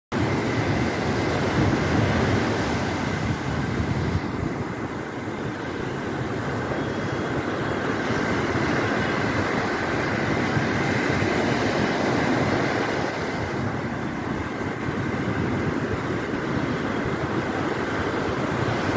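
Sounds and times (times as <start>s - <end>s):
deep surf rumble: 0.1s - 18.9s
waves roaring on shore: 0.1s - 18.9s.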